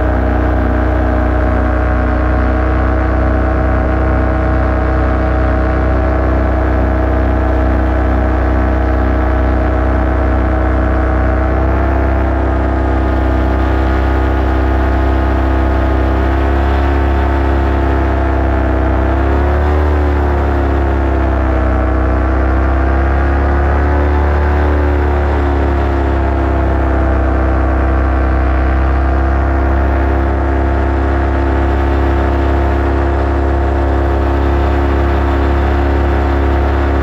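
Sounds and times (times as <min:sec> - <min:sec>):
paramotor engine and propeller: 0:00.0 - 0:37.0.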